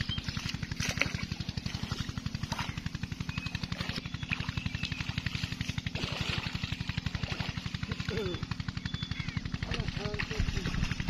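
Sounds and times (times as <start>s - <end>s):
pump engine running: 0.0s - 11.0s.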